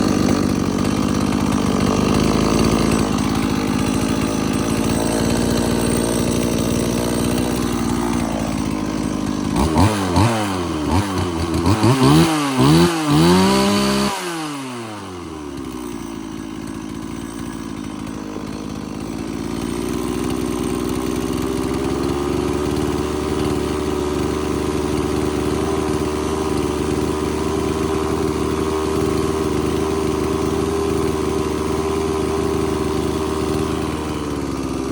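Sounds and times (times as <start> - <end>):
chainsaw engine idling and revving: 0.0 - 34.9.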